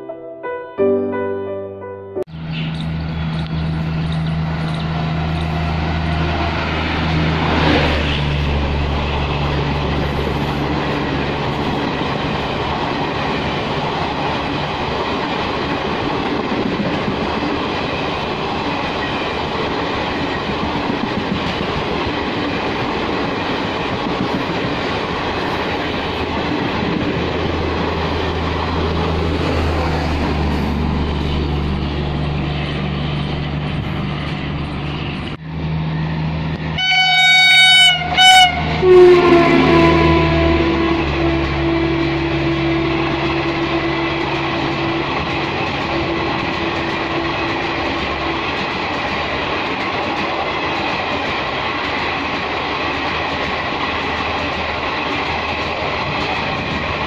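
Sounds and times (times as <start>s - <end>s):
electric locomotive passing: 2.3s - 57.0s
train coaches clattering over track: 2.3s - 57.0s.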